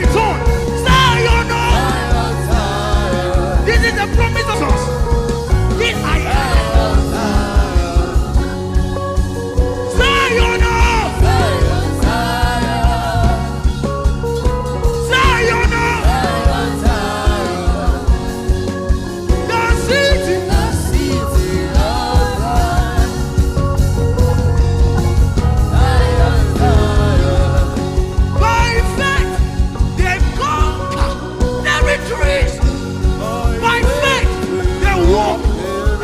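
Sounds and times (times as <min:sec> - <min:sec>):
bass: 0:00.0 - 0:36.0
drums: 0:00.0 - 0:36.0
sustained keyboard chords: 0:00.0 - 0:36.0
wavering lead melody: 0:00.0 - 0:36.0.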